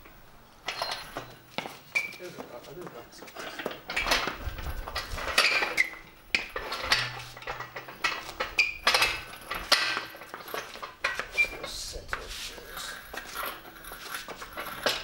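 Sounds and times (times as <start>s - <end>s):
metal tools clinking: 0.7s - 1.4s, 3.4s - 15.0s.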